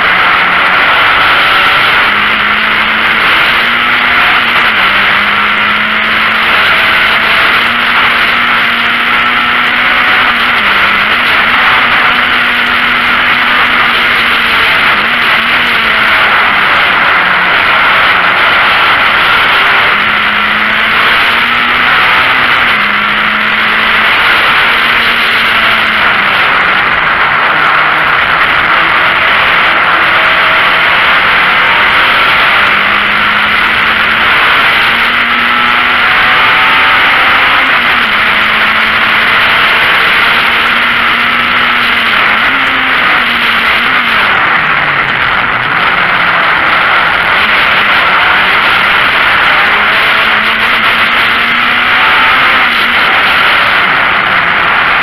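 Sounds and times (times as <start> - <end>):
race car engine changing gear: 0.0 - 55.0
wind and road noise: 0.0 - 55.0.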